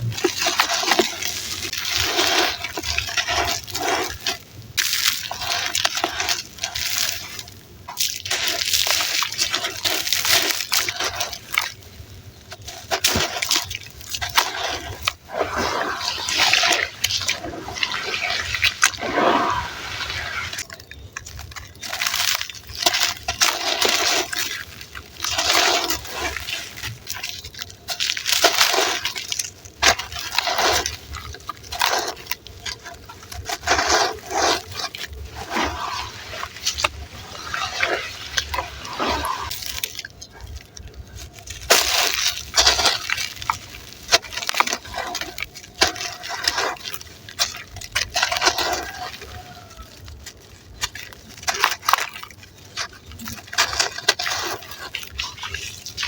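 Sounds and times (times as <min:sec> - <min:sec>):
sand crumbling in foamy water: 0:00.0 - 0:56.0
small crackles: 0:00.0 - 0:56.0.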